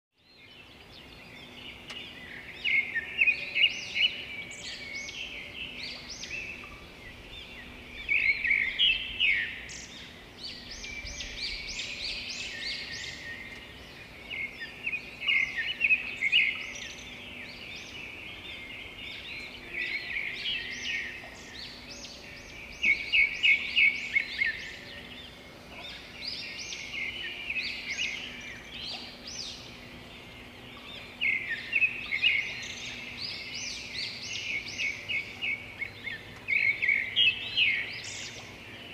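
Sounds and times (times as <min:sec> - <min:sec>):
small birds chirping and trilling: 0:00.2 - 0:38.9
faint steady hum: 0:00.4 - 0:38.9.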